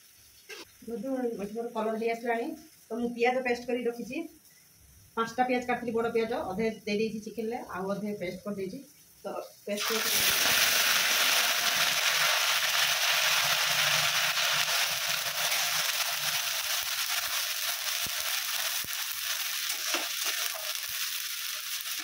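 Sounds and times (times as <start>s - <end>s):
onion paste sizzling in oil: 0.0s - 22.0s.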